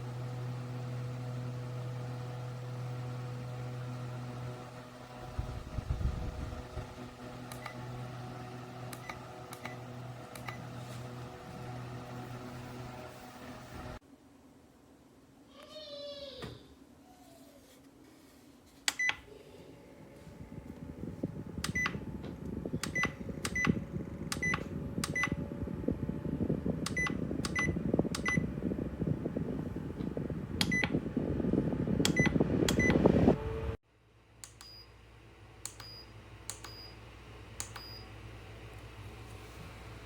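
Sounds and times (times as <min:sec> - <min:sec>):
faint hum: 0:00.0 - 0:40.0.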